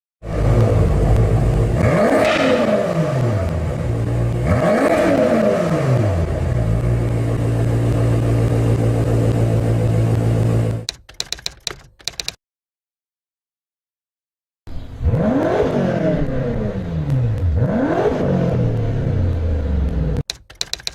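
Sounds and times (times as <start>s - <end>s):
car engine idling and revving: 0.2s - 12.3s, 14.7s - 20.9s.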